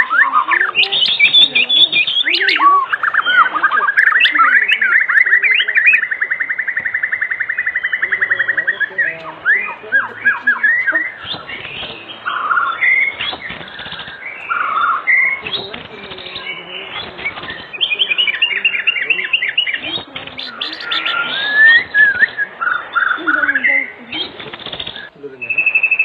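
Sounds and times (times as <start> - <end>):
songbird whistling and chirping: 0.0 - 26.0.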